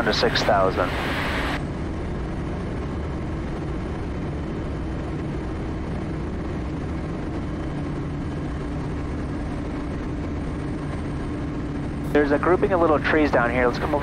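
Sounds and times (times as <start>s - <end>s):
turboprop engine drone: 0.0s - 14.0s.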